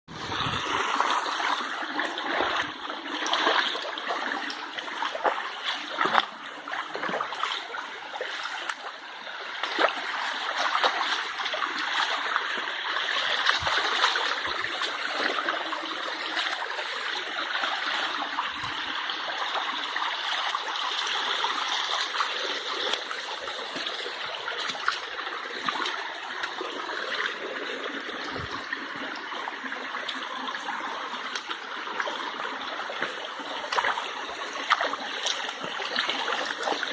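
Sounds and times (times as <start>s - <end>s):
stream running: 0.1s - 36.9s
water splashes: 0.1s - 36.9s.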